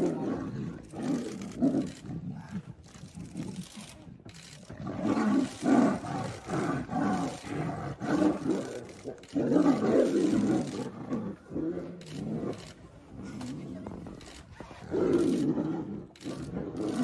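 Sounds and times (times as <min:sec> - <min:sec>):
tiger roars and snarls: 0:00.0 - 0:17.0.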